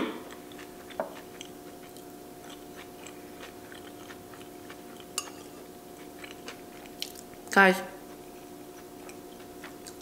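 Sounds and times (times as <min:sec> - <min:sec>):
faint steady hum: 0:00.0 - 0:10.0
chewing with mouth clicks: 0:00.2 - 0:10.0.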